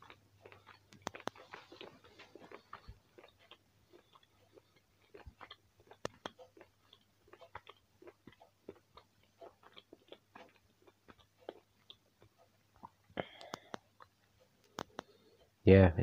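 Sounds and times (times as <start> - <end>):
chewing dried meat: 0.0 - 15.4.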